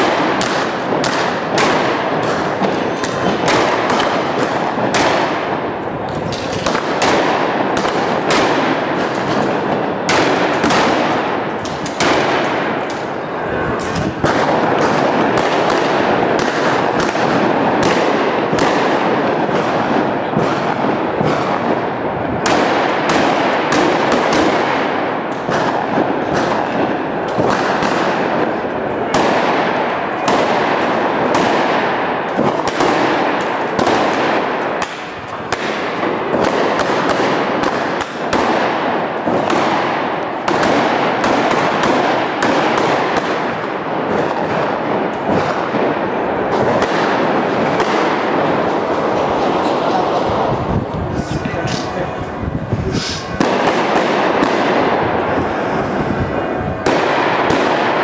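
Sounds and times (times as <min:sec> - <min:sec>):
firecracker bangs echoing: 0:00.0 - 0:58.0.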